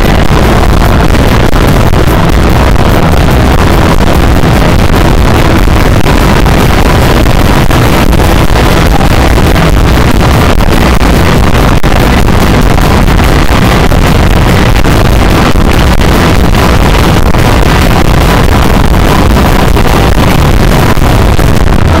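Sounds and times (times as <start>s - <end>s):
distorted live rock band: 0.0s - 22.0s.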